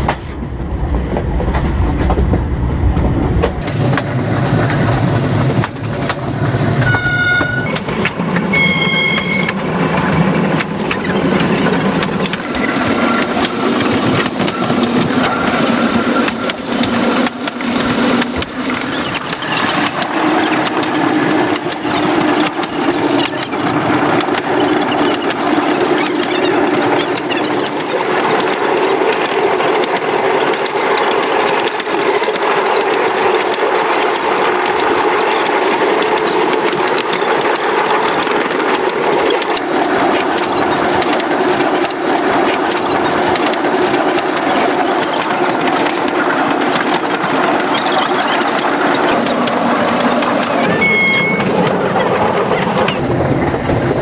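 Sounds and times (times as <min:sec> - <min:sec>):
train engine drone: 0:00.0 - 0:54.0
train wheels rattling and clattering: 0:00.0 - 0:54.0.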